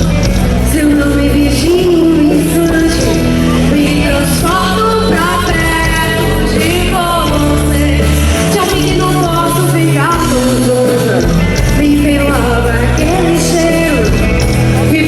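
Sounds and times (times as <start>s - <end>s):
bass guitar: 0.0s - 15.0s
distorted guitars: 0.0s - 15.0s
drums: 0.0s - 15.0s
person singing: 0.0s - 15.0s.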